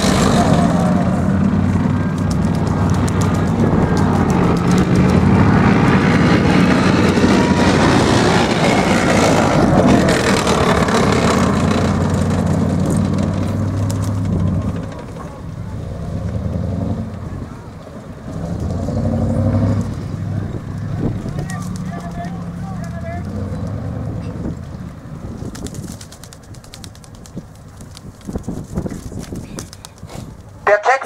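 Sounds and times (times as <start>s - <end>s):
tracked vehicle engine running: 0.0s - 31.0s.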